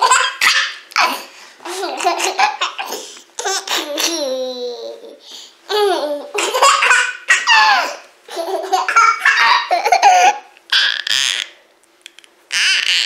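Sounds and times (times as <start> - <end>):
toddler laughing: 0.0 - 11.5, 12.5 - 13.0.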